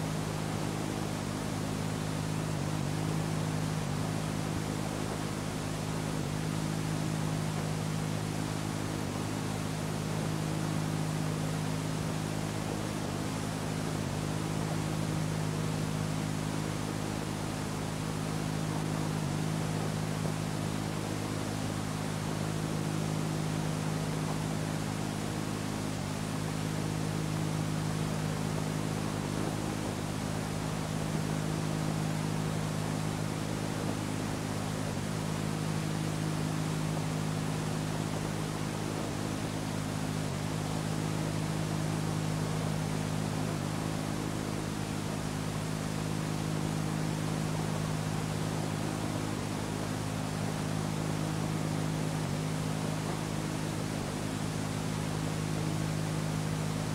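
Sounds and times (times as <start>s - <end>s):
recording hiss: 0.0s - 56.9s
steady low hum: 0.0s - 56.9s.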